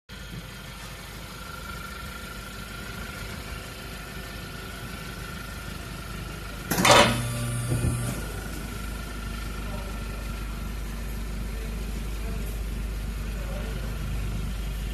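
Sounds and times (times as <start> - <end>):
car engine idling: 0.1 - 14.9.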